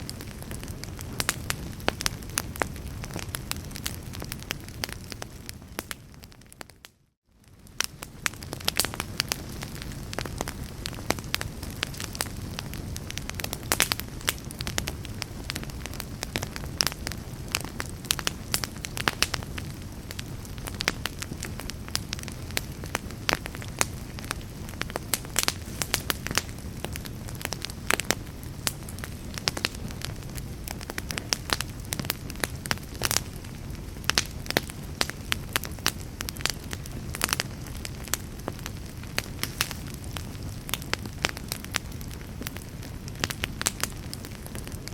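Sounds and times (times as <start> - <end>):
fire crackling in a fireplace: 0.0 - 44.9.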